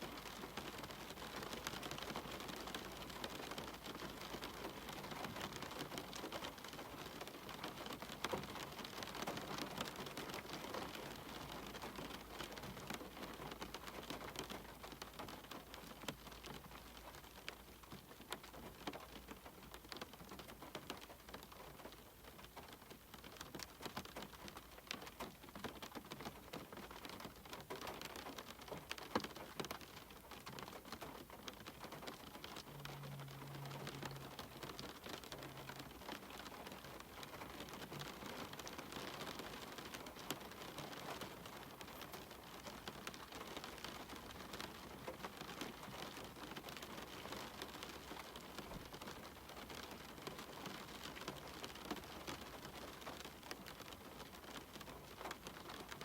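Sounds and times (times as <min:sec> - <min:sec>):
rain tapping on a window: 0:00.0 - 0:56.0.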